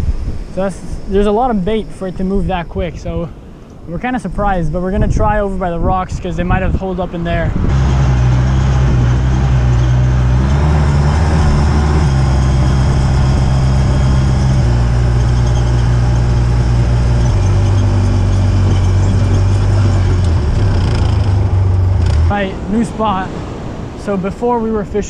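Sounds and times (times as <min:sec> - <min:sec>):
utility vehicle engine droning: 0:00.0 - 0:25.0.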